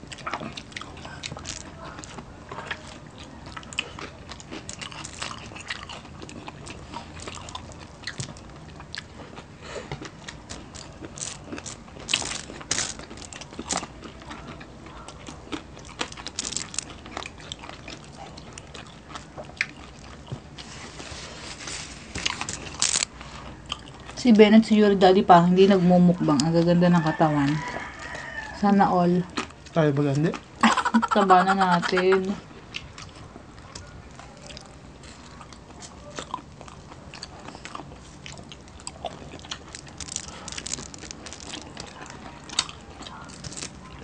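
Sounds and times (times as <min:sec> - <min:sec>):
chewing crispy fried food: 0:00.0 - 0:44.0.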